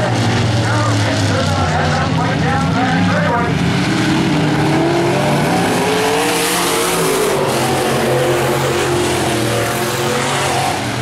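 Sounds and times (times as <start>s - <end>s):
race car engines at speed: 0.0s - 11.0s.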